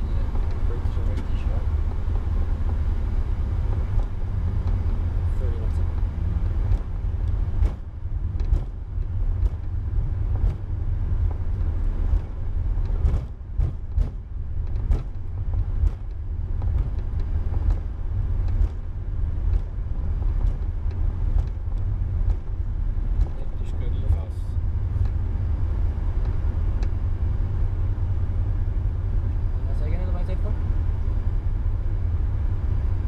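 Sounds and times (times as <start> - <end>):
aircraft taxiing rumble: 0.0 - 33.0.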